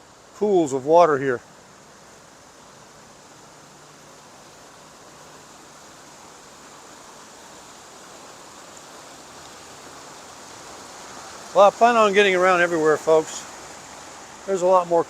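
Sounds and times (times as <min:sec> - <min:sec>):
running water hissing: 0:00.0 - 0:15.0.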